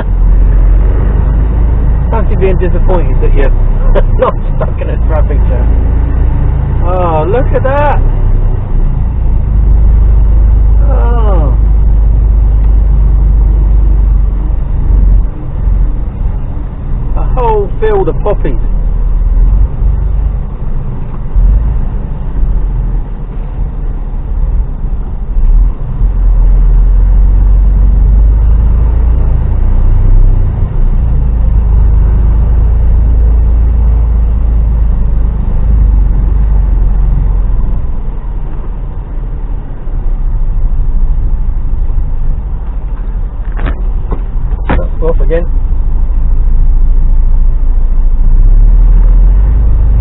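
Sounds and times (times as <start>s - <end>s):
diesel engine rumble: 0.0s - 50.0s.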